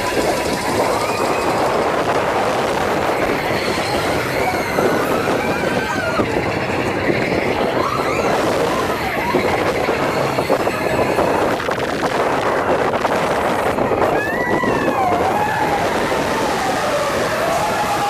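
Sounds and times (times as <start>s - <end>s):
riders shouting and screaming: 0.0s - 18.0s
roller coaster cars rattling on track: 0.0s - 18.0s.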